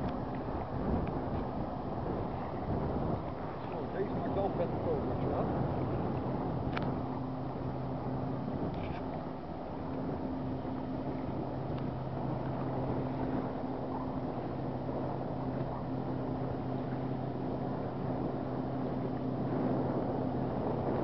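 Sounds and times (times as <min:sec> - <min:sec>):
distant speedboat engine droning: 0:00.0 - 0:21.0
wind noise on microphone: 0:00.0 - 0:21.0.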